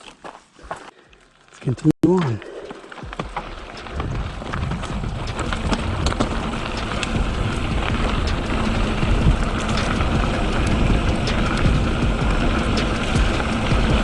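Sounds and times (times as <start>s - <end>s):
bike tyres on dirt and gravel: 0.0s - 14.0s
bike clicks and rattles: 2.5s - 14.0s.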